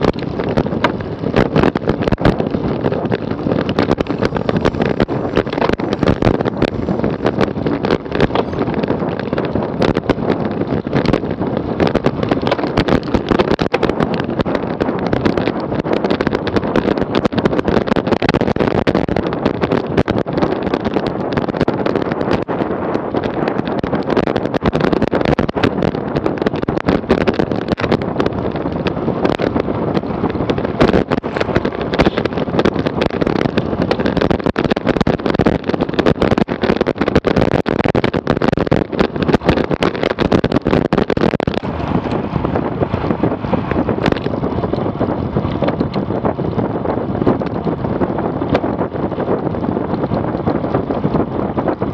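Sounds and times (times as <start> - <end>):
short crackles: 0.0 - 51.9
wind rushing over microphone: 0.0 - 51.9.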